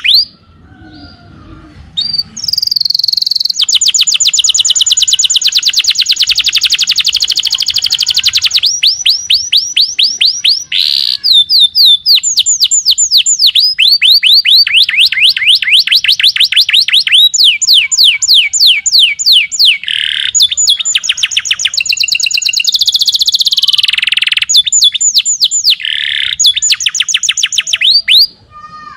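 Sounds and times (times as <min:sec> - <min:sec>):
canary singing trills: 0:00.0 - 0:01.3, 0:01.9 - 0:28.4.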